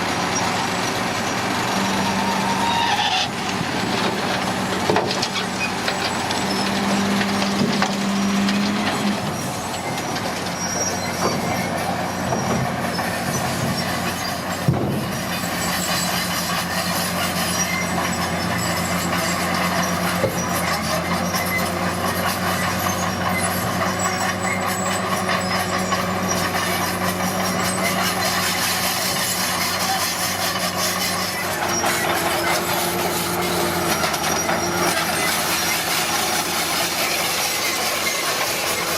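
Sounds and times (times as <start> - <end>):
bulldozer diesel engine running: 0.0 - 38.9
machine rattling and clanking: 3.3 - 38.9.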